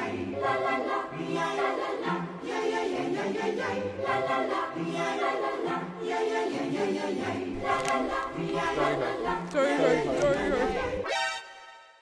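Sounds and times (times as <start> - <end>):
choir singing sustained chords: 0.0 - 12.0.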